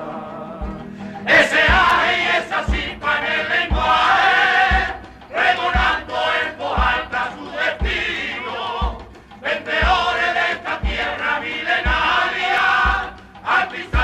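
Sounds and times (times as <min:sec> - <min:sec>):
male chorus singing: 0:00.0 - 0:14.0
low drum beat: 0:00.6 - 0:14.0.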